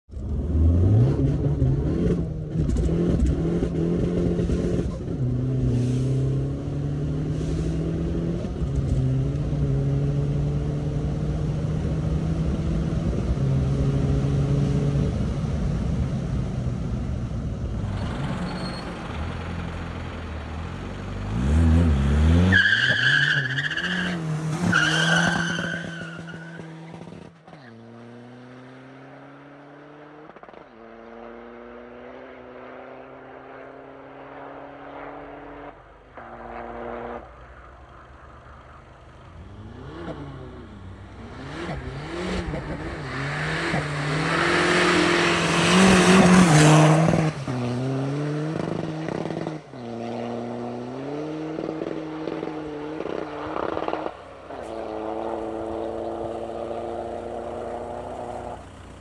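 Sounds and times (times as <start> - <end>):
diesel car accelerating: 0.1 - 59.0.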